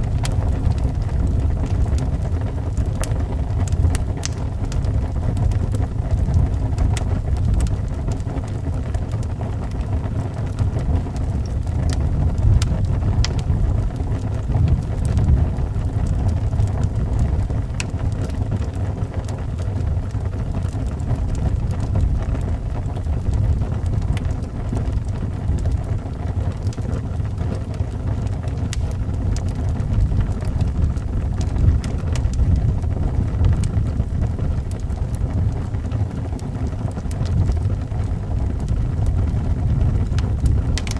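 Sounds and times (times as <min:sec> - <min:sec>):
howling wind: 0:00.0 - 0:40.9
wood fire crackling and popping: 0:00.0 - 0:40.9.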